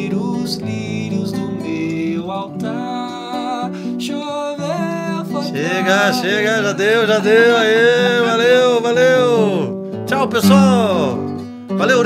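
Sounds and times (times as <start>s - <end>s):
classical guitar playing: 0.0s - 12.0s.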